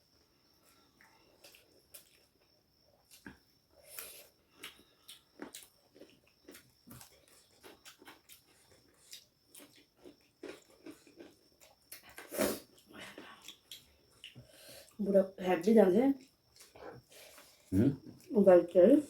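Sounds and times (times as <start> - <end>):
people chewing food: 0.3 - 15.0, 16.1 - 19.0.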